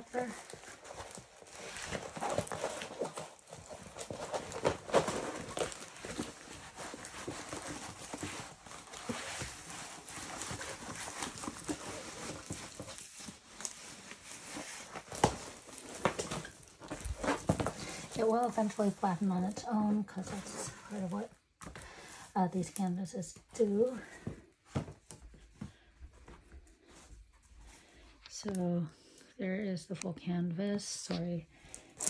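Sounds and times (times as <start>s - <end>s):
plastic crinkling and rustling: 0.0s - 29.2s.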